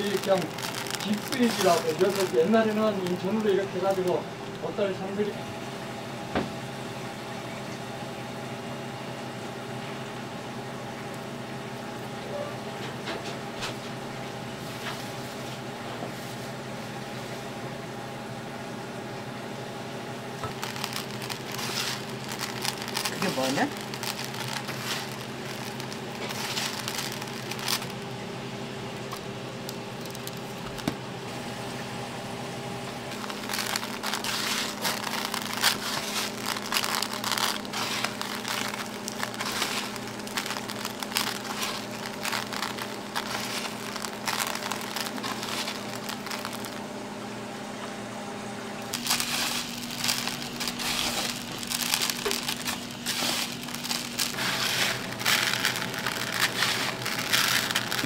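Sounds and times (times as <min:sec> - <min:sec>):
crinkling handling noise: 0:00.0 - 0:06.6, 0:14.6 - 0:17.6, 0:20.2 - 0:47.8, 0:48.8 - 0:58.0
steady low hum: 0:00.0 - 0:58.0.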